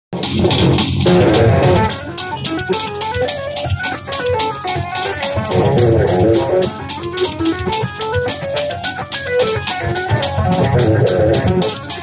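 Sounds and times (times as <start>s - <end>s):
electric guitar metal runs: 0.2s - 12.0s
sharp drum hits: 0.2s - 12.0s.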